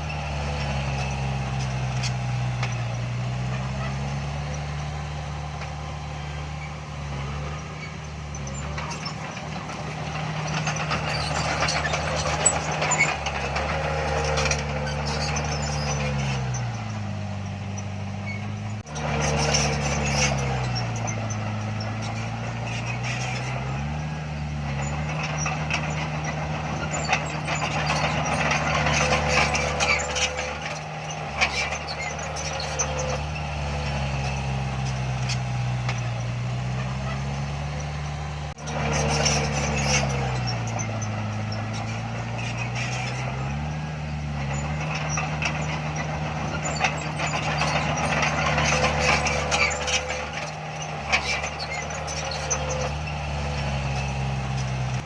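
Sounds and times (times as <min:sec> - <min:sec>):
heavy diesel engine running: 0:00.0 - 0:55.0
metallic clanking: 0:00.0 - 0:55.0
metallic squeaking: 0:00.0 - 0:55.0.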